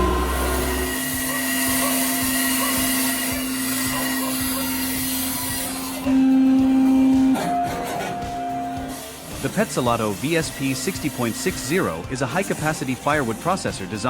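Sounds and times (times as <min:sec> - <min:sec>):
motor whining hum: 0:00.0 - 0:14.0.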